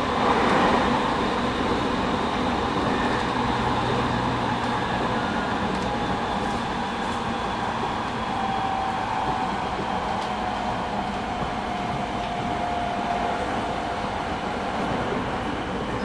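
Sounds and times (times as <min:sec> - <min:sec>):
electric train interior rumble: 0:00.0 - 0:16.0.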